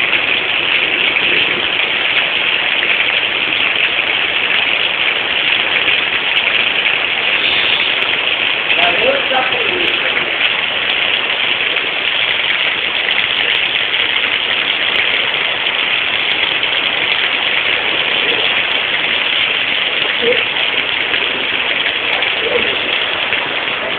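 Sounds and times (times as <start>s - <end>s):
heavy rain hissing: 0.0s - 23.9s.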